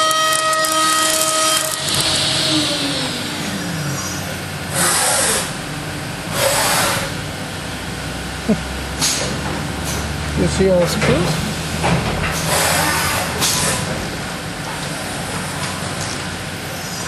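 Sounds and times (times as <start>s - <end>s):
milling machine cutting whine: 0.0s - 17.0s.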